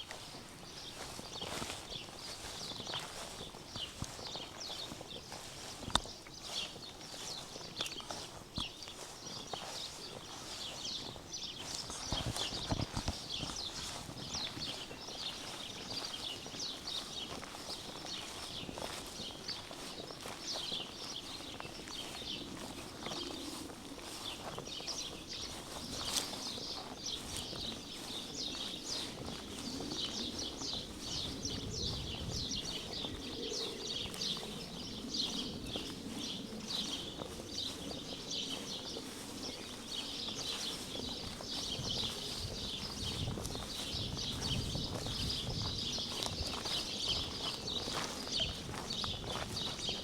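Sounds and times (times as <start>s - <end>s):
footsteps on path: 0.0s - 50.0s
songbirds chirping: 0.0s - 50.0s.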